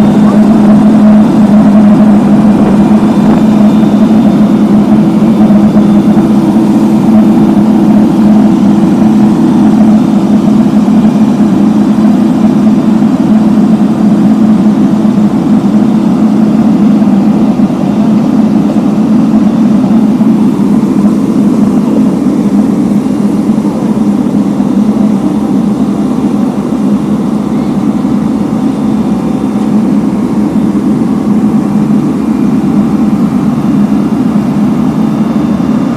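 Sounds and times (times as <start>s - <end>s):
heavy machinery engine drone: 0.0s - 35.9s.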